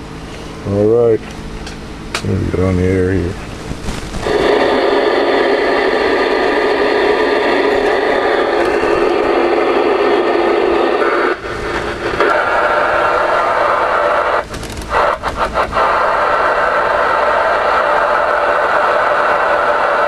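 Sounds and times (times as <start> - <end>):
radio static hiss: 2.2 - 20.0.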